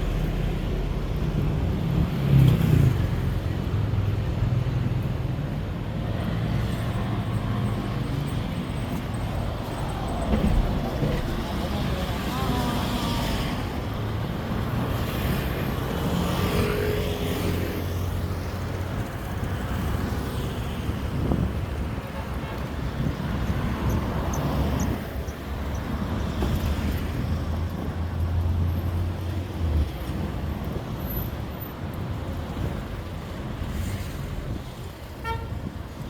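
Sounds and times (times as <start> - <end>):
cars and buses passing: 0.0 - 36.0.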